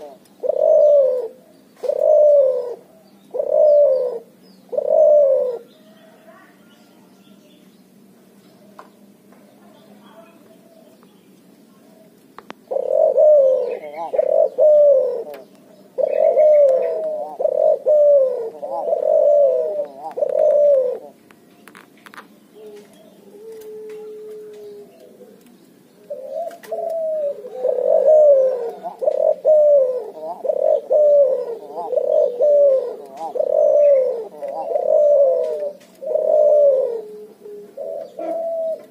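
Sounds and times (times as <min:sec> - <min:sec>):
dove cooing: 0:00.0 - 0:07.5, 0:11.7 - 0:21.8, 0:22.4 - 0:38.9.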